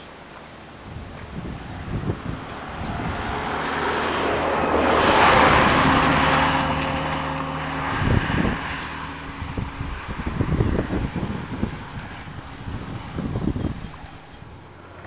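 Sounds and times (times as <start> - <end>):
wind buffeting microphone: 0.5 - 15.0
lorry passing: 0.9 - 15.0.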